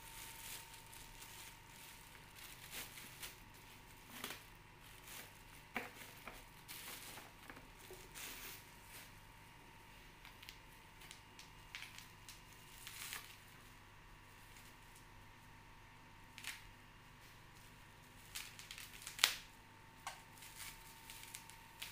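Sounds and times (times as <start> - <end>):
plastic wrapping crinkling: 0.0 - 9.2, 10.2 - 13.8, 16.3 - 16.7, 17.5 - 21.9.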